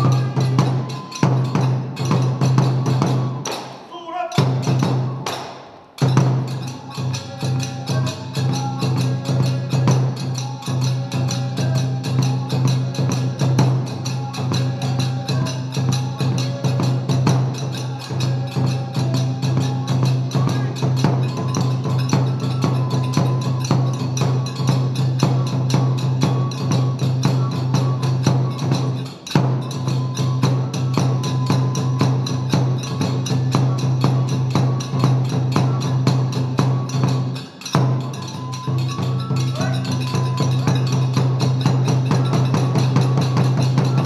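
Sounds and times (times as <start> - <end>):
drum beat: 0.0 - 44.0
flute melody: 0.0 - 44.0
small hand cymbals: 0.0 - 44.0.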